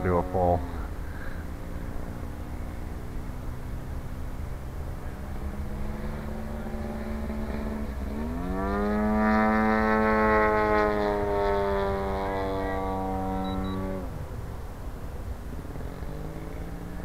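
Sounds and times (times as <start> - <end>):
model airplane engine: 0.0 - 14.3.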